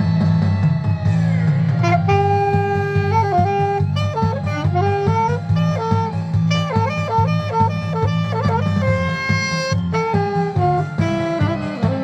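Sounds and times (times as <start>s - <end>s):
backing track with bass line: 0.0s - 12.0s
saxophone melody: 1.8s - 12.0s.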